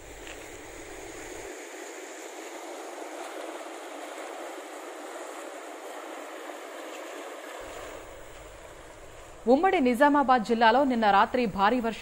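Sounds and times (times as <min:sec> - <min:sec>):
fast-flowing water hissing: 0:00.0 - 0:09.7.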